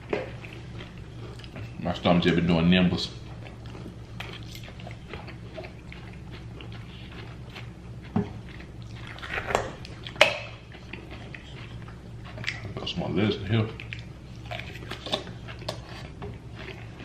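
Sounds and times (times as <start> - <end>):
chewing and crunching lettuce: 0.0 - 17.0
low steady hum: 0.0 - 17.0.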